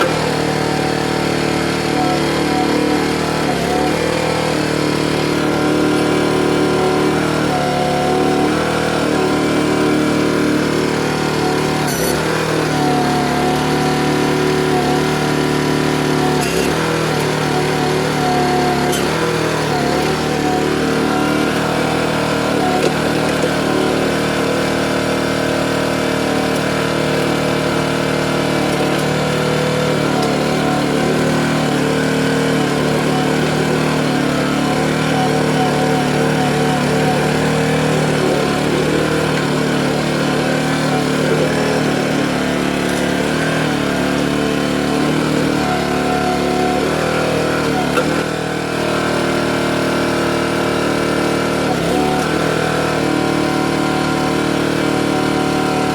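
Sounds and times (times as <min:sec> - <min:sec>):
small gasoline engine running: 0:00.0 - 0:55.9.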